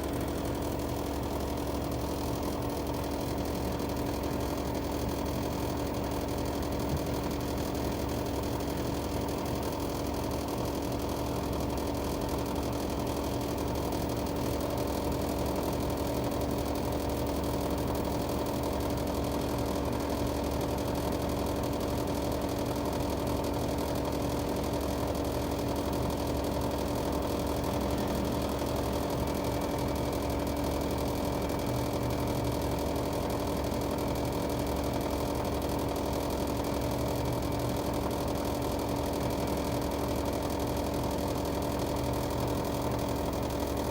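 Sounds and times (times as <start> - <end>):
air conditioner unit humming: 0.0 - 43.9.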